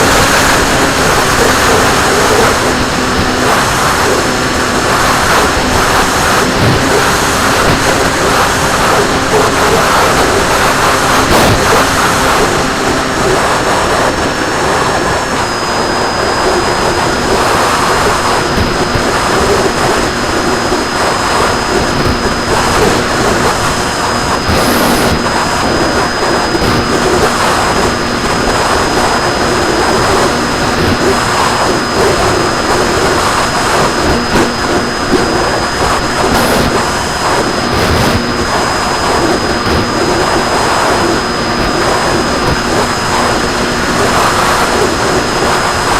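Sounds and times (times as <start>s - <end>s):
high-pitched whine: 0.0s - 45.9s
model plane motor and propeller: 0.0s - 45.9s
wind noise: 0.0s - 45.9s.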